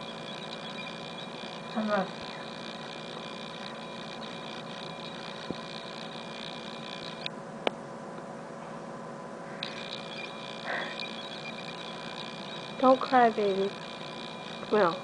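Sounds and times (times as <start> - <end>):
high whine: 0.0 - 7.8, 9.4 - 15.0
electrical room hum: 0.0 - 15.0.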